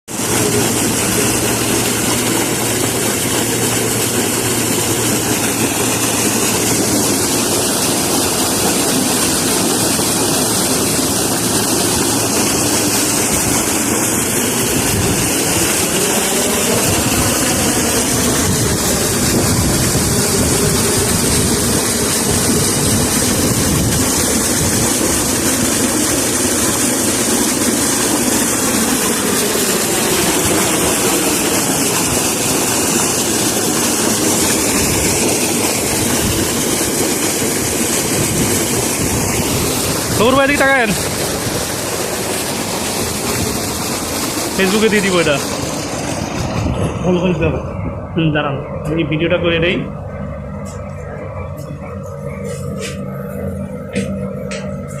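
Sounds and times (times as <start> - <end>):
water gushing from pump: 0.0 - 55.0
low steady hum: 0.2 - 55.0.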